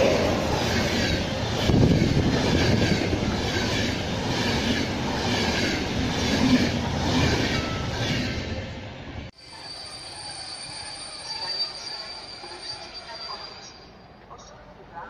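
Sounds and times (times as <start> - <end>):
rushing rail noise: 0.0 - 14.9.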